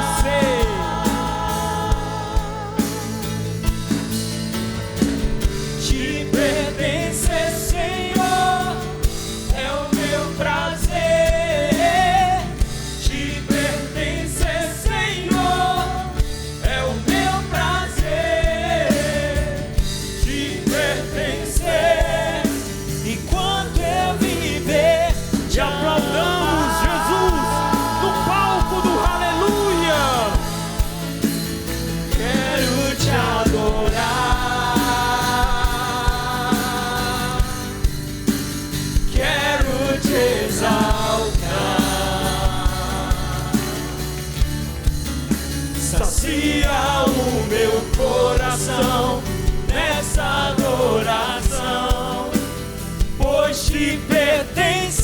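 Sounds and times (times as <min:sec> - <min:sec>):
steady drum beat: 0:00.0 - 0:55.0
worship singing over a band: 0:00.0 - 0:55.0.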